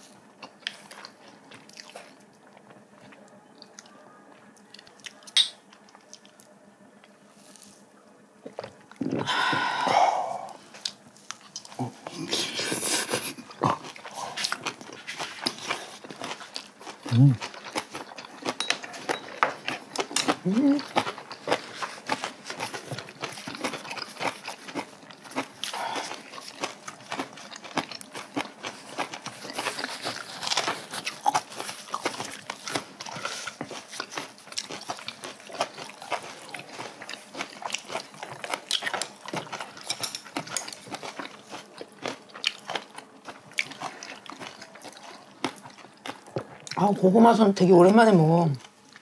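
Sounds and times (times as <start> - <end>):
people chewing food: 0.0 - 49.0.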